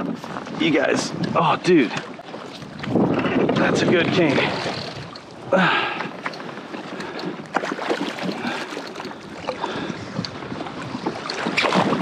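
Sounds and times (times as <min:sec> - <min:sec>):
water splashing around a kayak: 0:00.0 - 0:12.0
wind on the microphone: 0:00.0 - 0:12.0.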